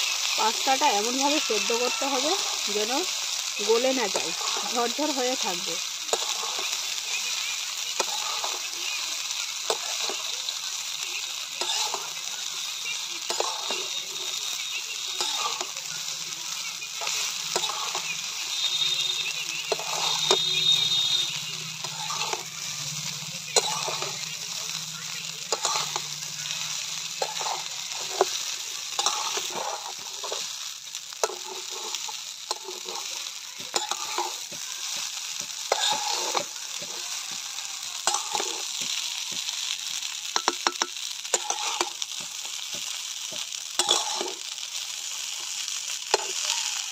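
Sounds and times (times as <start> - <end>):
pasta sizzling in a pan: 0.0 - 46.9
metal spatula scraping a pan: 0.2 - 10.3, 11.6 - 12.3, 13.2 - 45.4, 46.1 - 46.9.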